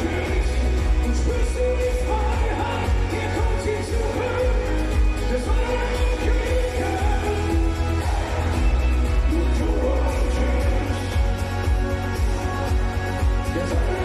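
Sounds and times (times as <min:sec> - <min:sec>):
amplified pop band: 0:00.0 - 0:14.0
man singing into a microphone: 0:00.0 - 0:14.0.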